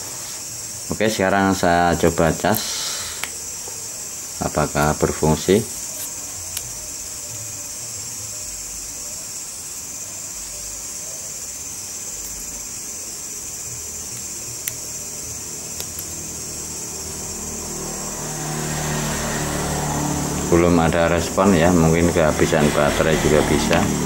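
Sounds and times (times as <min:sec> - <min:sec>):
high hiss: 0:00.0 - 0:24.0.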